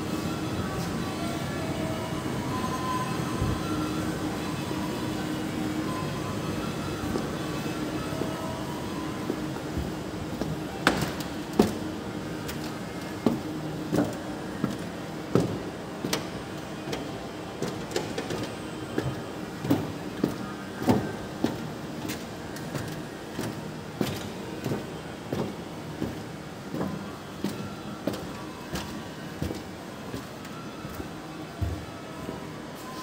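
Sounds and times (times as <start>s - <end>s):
indoor background hum: 0.0s - 33.0s.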